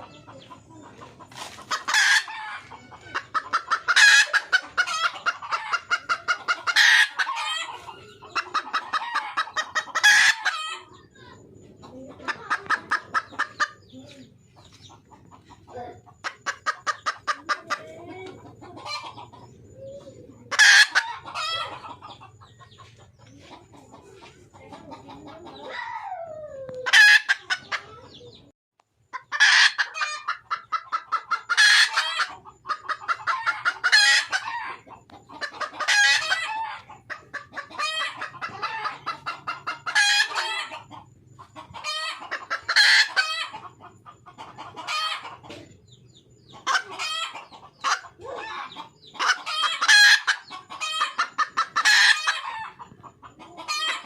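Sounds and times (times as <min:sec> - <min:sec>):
hen clucking rapidly: 0:00.0 - 0:28.5, 0:29.1 - 0:54.0.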